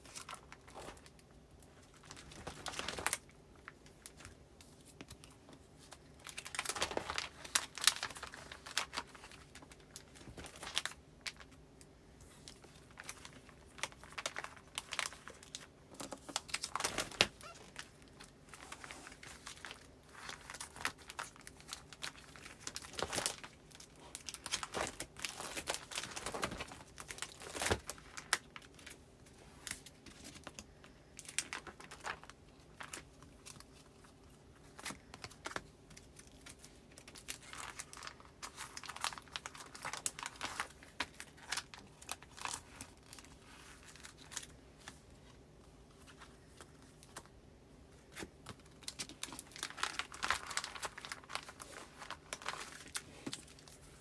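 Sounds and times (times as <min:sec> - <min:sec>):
paper and plastic sleeves crinkling: 0:00.0 - 0:54.0.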